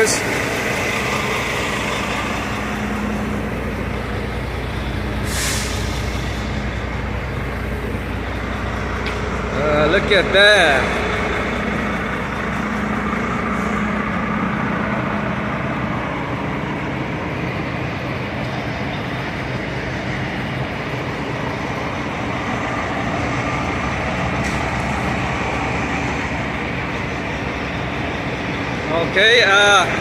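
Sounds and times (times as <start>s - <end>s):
low engine hum: 0.0s - 30.0s
vehicle road noise: 0.0s - 30.0s.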